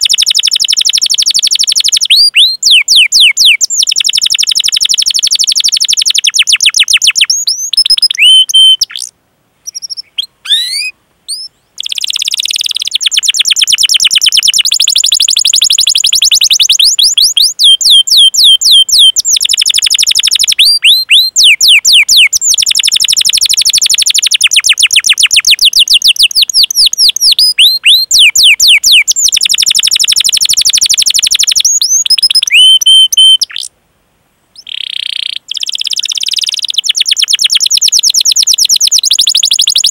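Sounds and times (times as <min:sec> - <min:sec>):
canary singing trills: 0:00.0 - 0:33.7, 0:34.6 - 0:39.9
chirping call notes: 0:00.0 - 0:33.7, 0:34.6 - 0:39.9.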